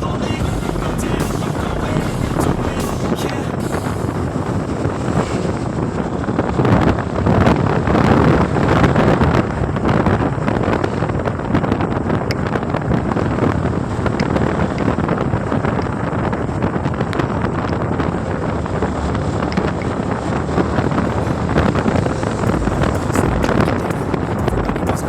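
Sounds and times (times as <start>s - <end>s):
moving vehicle running noise: 0.0s - 25.0s
wind on microphone: 0.0s - 25.0s.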